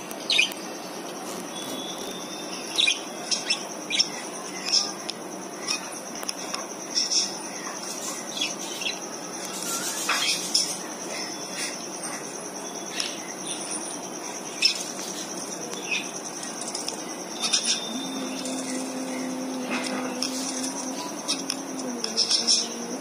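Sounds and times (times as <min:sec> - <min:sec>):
finches chirping: 0:00.0 - 0:23.0
low steady hum: 0:00.0 - 0:23.0
steady high-pitched hiss: 0:00.0 - 0:23.0.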